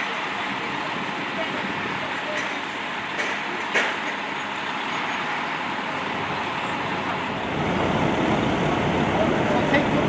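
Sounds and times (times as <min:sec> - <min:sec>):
deep engine rumble: 0:00.0 - 0:10.0
motor vehicles running: 0:00.0 - 0:10.0.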